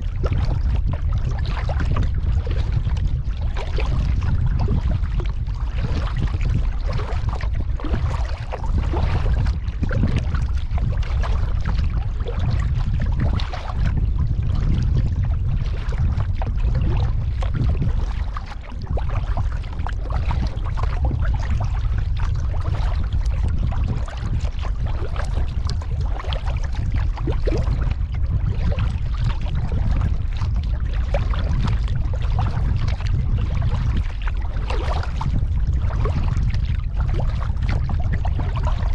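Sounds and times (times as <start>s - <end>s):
low rumble: 0.0s - 38.9s
water splashing around kayak: 0.0s - 38.9s.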